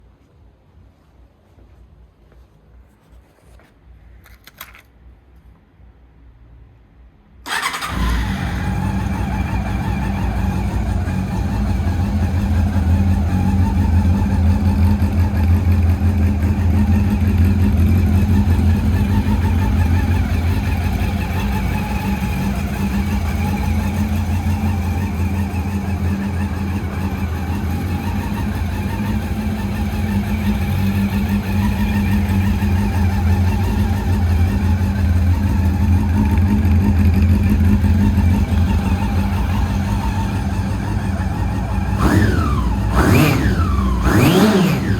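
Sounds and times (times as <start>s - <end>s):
motorcycle engine running: 7.5s - 44.9s.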